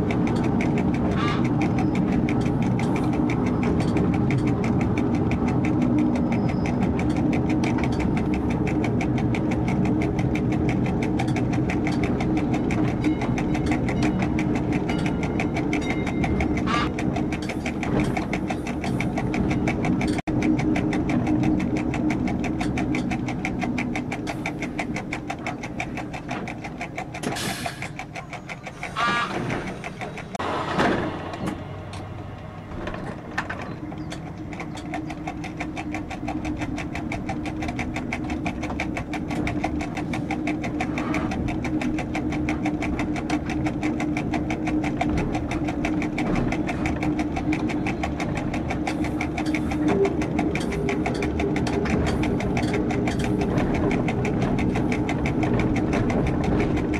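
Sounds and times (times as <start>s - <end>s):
railcar engine running: 0.0s - 56.9s.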